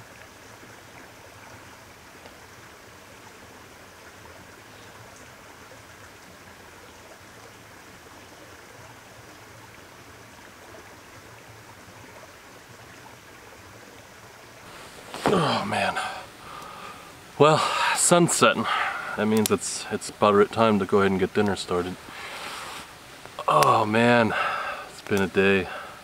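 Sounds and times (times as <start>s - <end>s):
creek flowing over rock: 0.0s - 26.0s.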